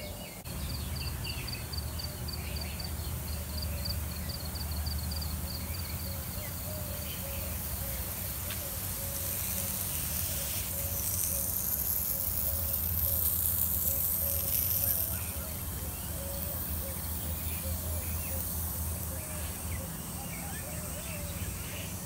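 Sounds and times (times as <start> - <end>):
sprinklers hissing: 0.0 - 22.0.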